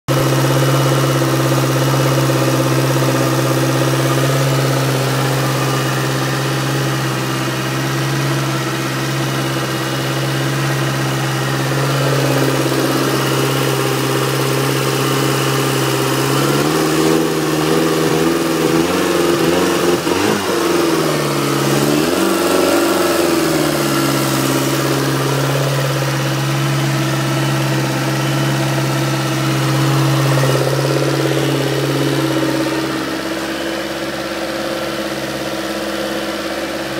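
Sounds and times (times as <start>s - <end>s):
outboard motor idling and revving: 0.0s - 36.9s.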